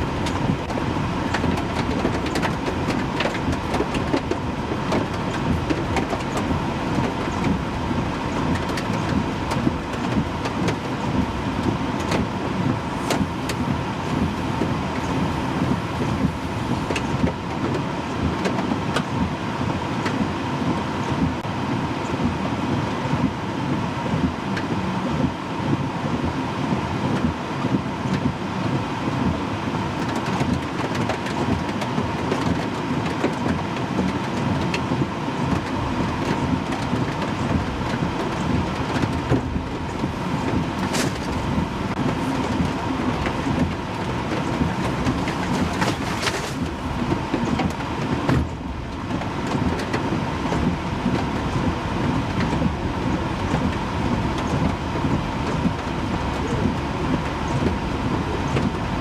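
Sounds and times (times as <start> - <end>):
tornado wind roar: 0.0 - 59.0.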